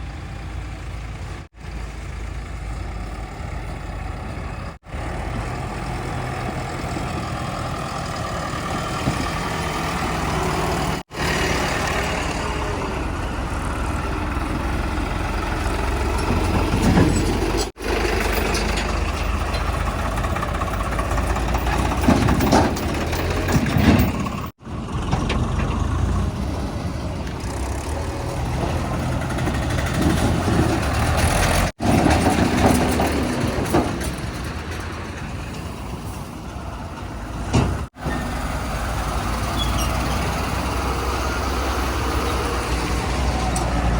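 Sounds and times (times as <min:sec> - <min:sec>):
heavy diesel machinery revving: 0:00.0 - 0:43.9.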